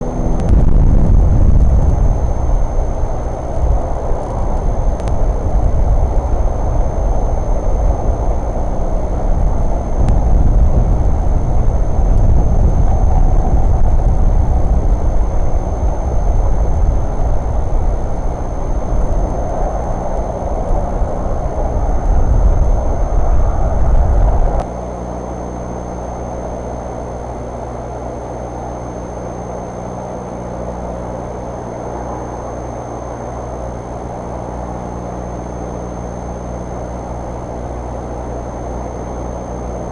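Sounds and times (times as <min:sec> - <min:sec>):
engine rumbling: 0:00.0 - 0:35.0.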